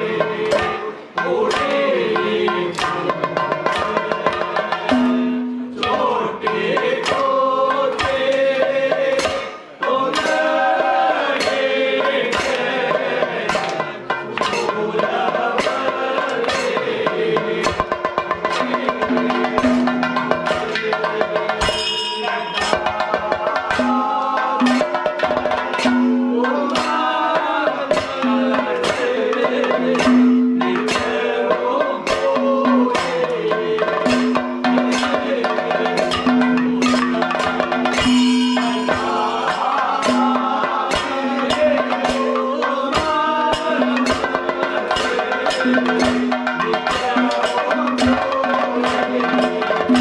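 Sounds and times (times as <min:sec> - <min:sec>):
men singing in chorus: 0:00.0 - 0:50.0.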